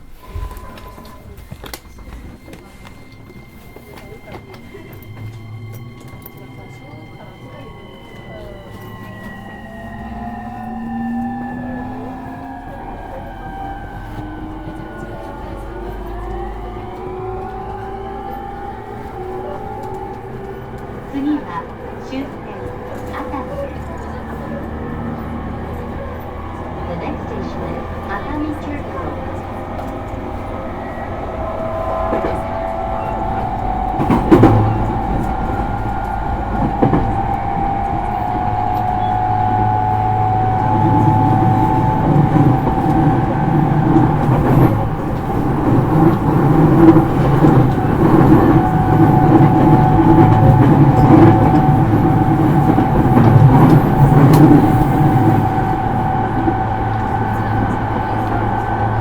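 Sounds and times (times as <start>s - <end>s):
train wheels rumbling on rails: 0.0s - 59.0s
traction motor whine: 0.2s - 59.0s.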